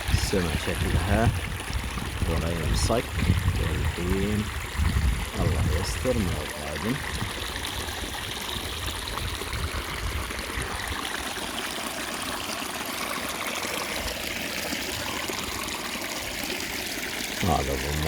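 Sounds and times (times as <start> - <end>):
spring water trickling: 0.0 - 18.0.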